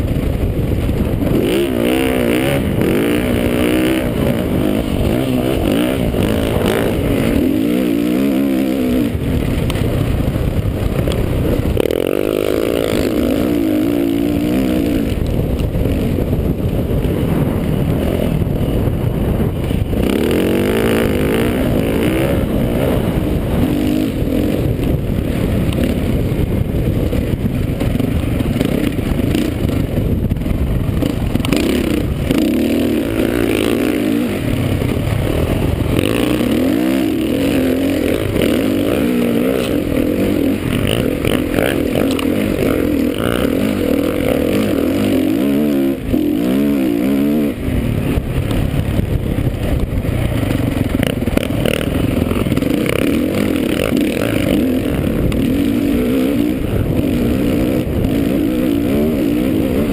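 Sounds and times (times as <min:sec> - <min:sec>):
motorbike engine revving: 0:00.0 - 0:59.9
wind rushing over microphone: 0:00.0 - 0:59.9.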